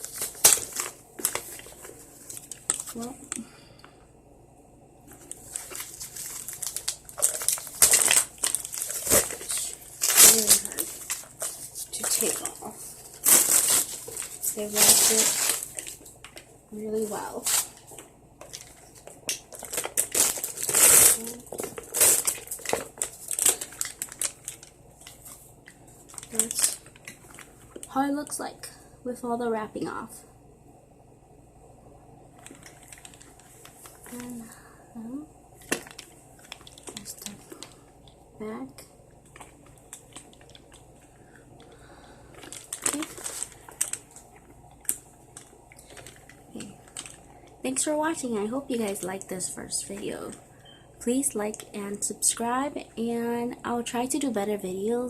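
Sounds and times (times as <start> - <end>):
wrapping crinkling and rustling: 0.0 - 3.5, 5.0 - 28.4, 32.3 - 55.0.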